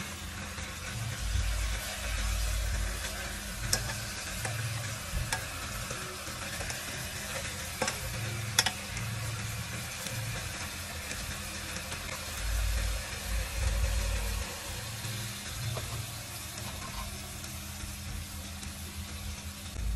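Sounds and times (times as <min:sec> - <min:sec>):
fish sizzling in pot: 0:00.0 - 0:19.9.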